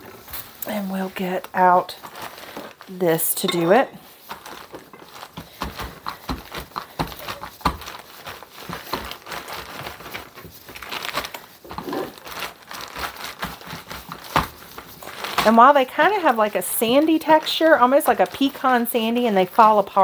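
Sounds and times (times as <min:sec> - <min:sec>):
crumbs crackling: 0:00.0 - 0:20.0
plastic bag crinkling: 0:00.0 - 0:20.0
rolling pin crushing cookies: 0:01.2 - 0:20.0.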